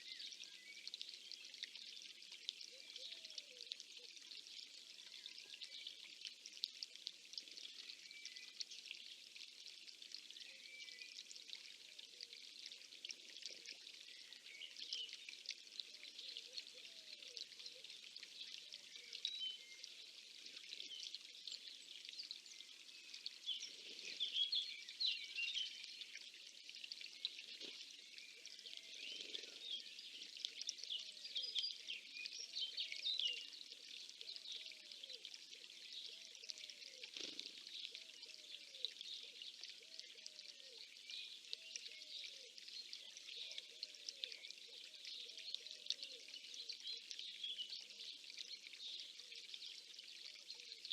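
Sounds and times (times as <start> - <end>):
songbirds chirping and singing: 10.0 - 50.9.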